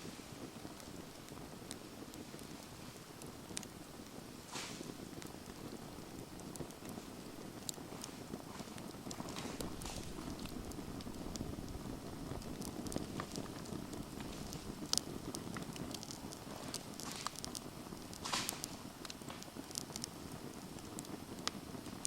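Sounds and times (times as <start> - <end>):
flame rushing: 0.0 - 22.0
wood crackling and popping: 0.0 - 22.0.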